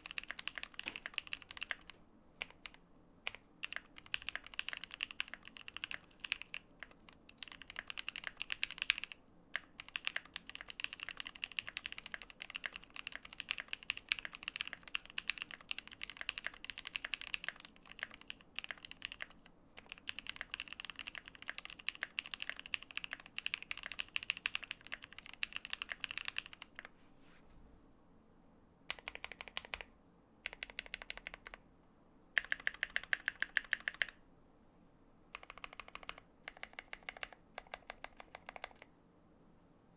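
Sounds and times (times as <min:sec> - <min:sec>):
mechanical keyboard typing: 0:00.0 - 0:26.9, 0:28.9 - 0:31.6, 0:32.4 - 0:34.2, 0:35.3 - 0:38.9.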